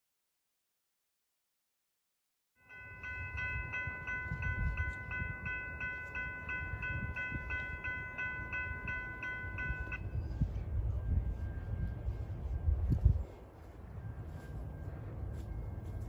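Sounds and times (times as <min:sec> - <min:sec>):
crossing warning bell ringing: 0:02.6 - 0:16.0.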